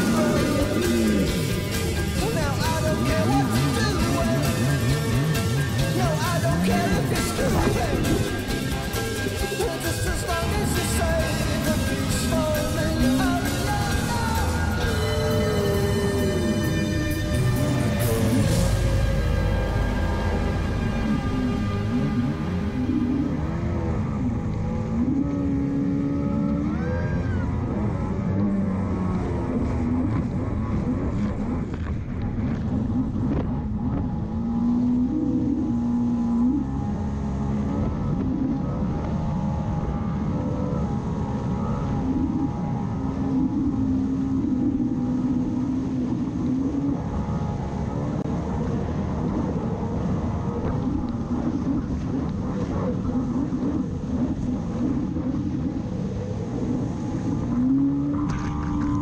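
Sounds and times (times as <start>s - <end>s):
jet ski engine revving: 0.0s - 59.0s.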